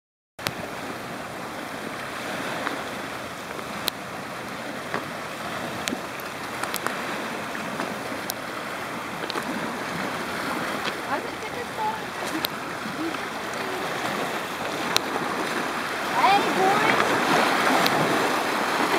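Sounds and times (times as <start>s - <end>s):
small waves breaking on pebbles: 0.5s - 18.9s.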